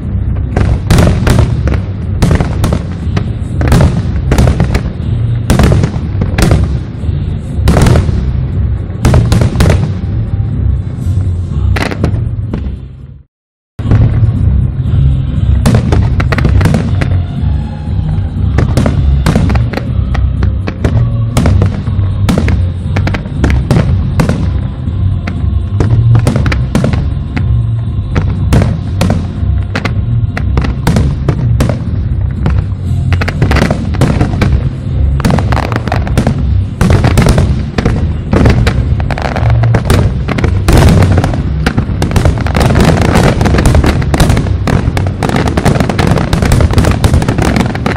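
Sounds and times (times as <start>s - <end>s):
fireworks bursting and crackling: 0.0s - 13.1s, 13.8s - 47.9s
music: 0.0s - 47.9s.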